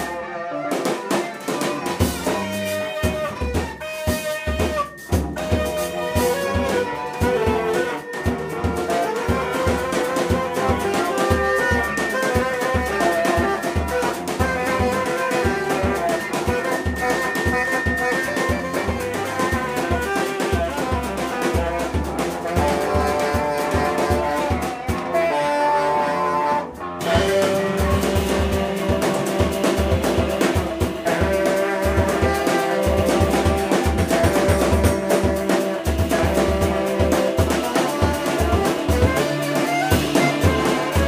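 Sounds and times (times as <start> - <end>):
drums: 0.0 - 41.0
guitar: 0.0 - 41.0
saxophone: 0.0 - 41.0.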